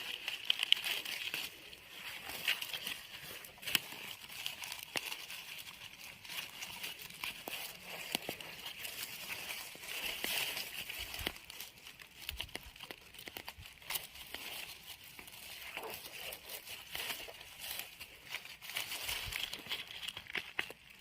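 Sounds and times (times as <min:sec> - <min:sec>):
hands rustling through dry leaves: 0:00.0 - 0:21.0
small snaps and crackles: 0:00.0 - 0:21.0.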